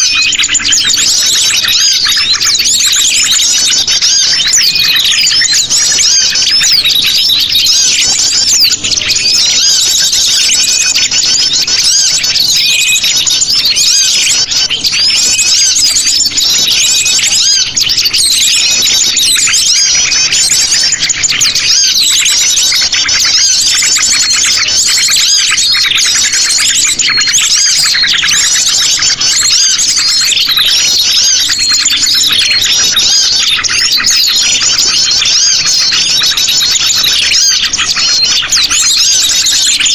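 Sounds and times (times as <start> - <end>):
birds chattering and trilling: 0.0 - 39.9.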